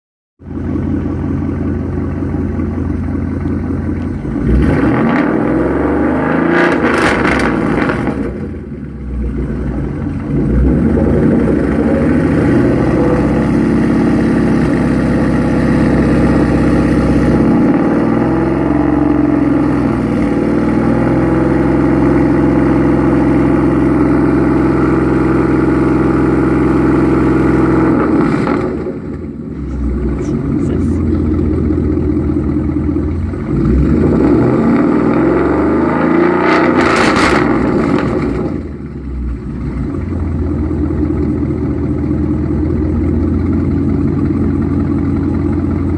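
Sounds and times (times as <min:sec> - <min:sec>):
car engine idling and revving: 0:00.4 - 0:45.9.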